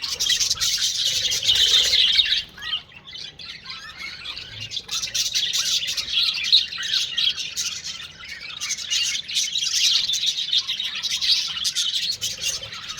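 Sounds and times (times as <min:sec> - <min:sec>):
budgerigars chirping: 0:00.0 - 0:12.9.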